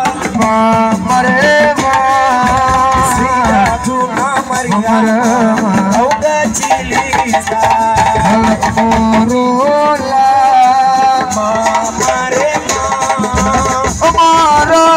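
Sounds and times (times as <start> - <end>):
hand percussion: 0.0 - 14.9.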